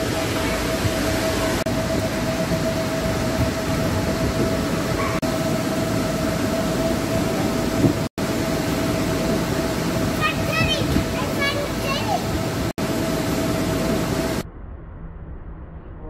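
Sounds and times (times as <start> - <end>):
electric air blowers: 0.0 - 14.4
constant hum: 0.0 - 16.0.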